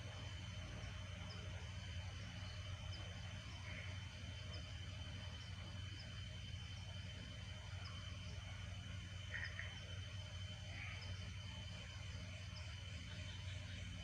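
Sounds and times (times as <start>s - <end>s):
faint insect chirps: 0.0s - 14.0s
insects trilling: 0.0s - 14.0s.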